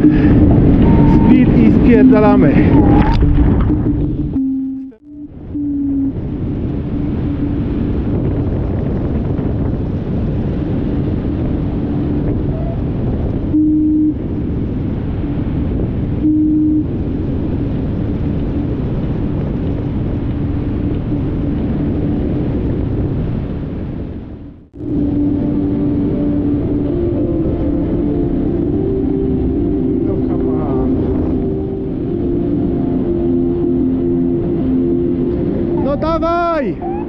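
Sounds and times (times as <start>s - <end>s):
steady low hum: 0.0s - 36.0s
wind rushing over microphone: 0.0s - 37.0s.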